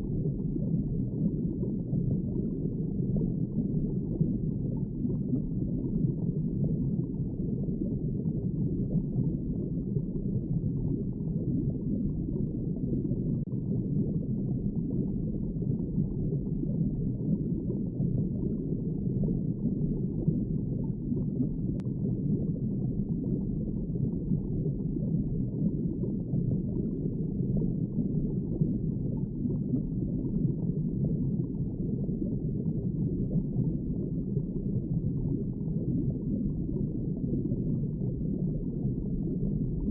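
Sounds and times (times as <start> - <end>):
muffled underwater rush: 0.0 - 39.9.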